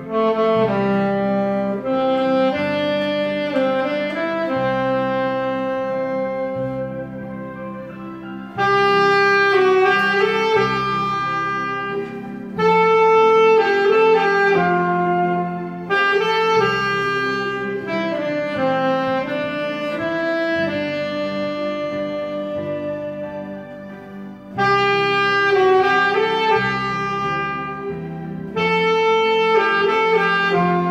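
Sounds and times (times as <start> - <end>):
backing accompaniment: 0.0 - 30.9
saxophone playing slow melody: 0.0 - 30.9.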